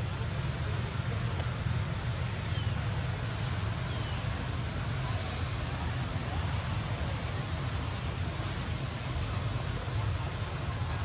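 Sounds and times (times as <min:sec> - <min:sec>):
hiss: 0:00.2 - 0:11.0.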